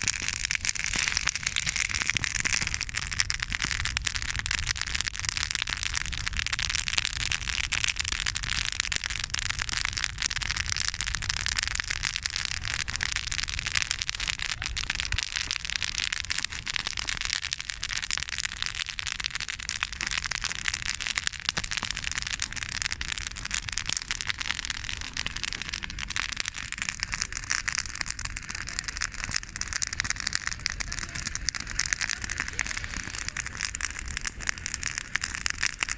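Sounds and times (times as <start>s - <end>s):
campfire crackling and popping: 0.0s - 35.9s
low fire rumble: 0.0s - 35.9s.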